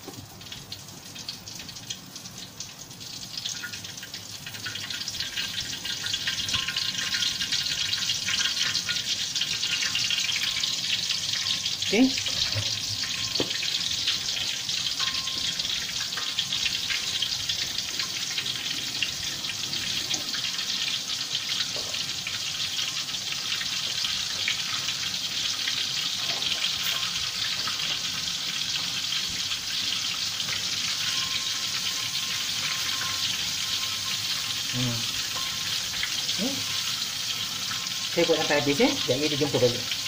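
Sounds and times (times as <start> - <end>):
fish deep-frying in oil: 0.0 - 40.0.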